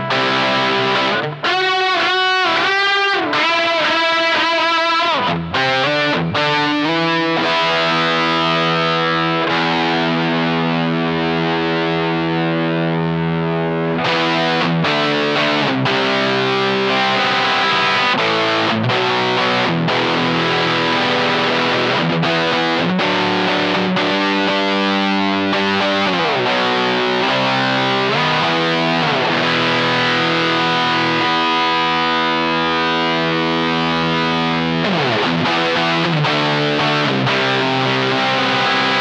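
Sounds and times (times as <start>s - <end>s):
heavily distorted electric guitar: 0.0s - 39.0s.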